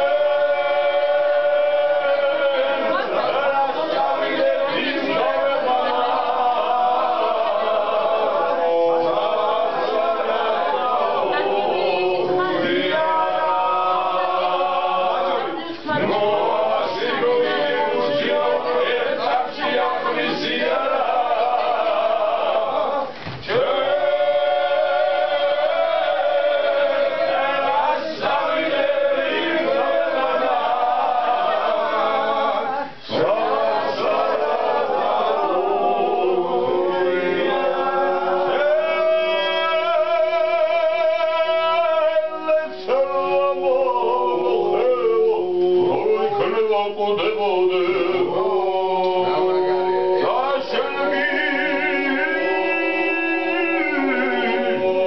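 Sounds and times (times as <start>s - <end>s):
men singing a cappella: 0.0s - 55.0s.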